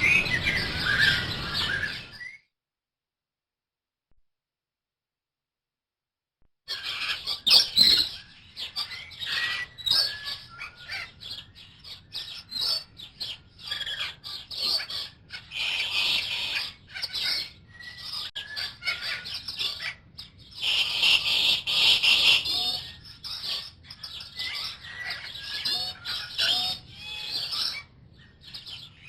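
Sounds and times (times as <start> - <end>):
many birds chirping: 0.0 - 2.4, 6.7 - 29.0.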